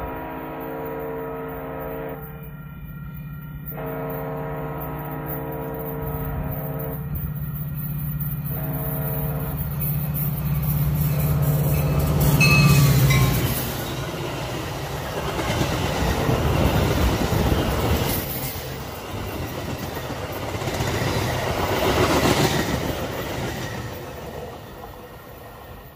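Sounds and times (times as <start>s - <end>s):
diesel locomotive engine drone: 0.0s - 25.9s
train wheels on rails: 0.0s - 25.9s.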